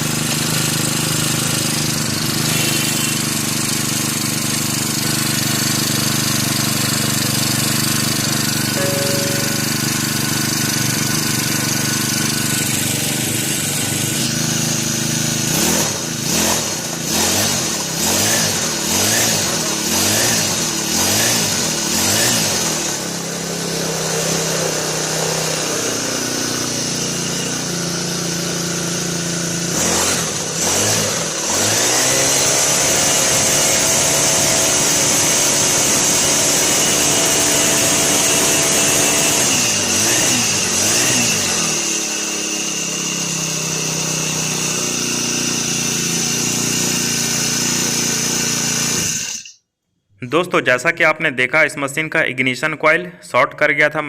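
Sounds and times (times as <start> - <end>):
brush cutter engine revving: 0.0 - 9.1, 9.8 - 49.6.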